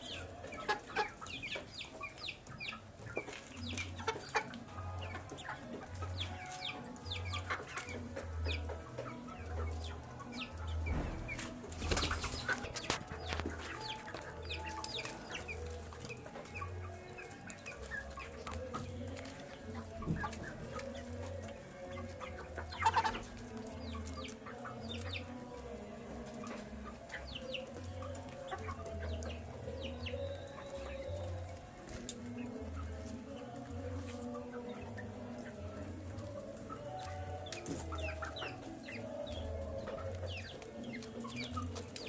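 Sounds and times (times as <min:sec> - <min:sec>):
chickens clucking: 0:00.0 - 0:42.0
chicks peeping: 0:00.0 - 0:42.0.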